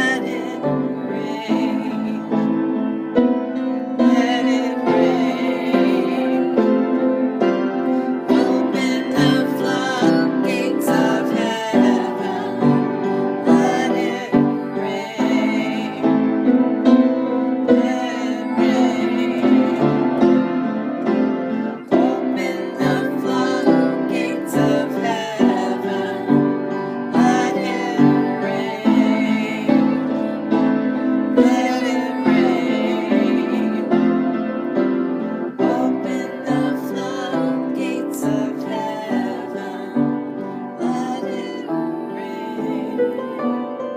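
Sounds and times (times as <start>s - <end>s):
piano music: 0.0s - 43.9s.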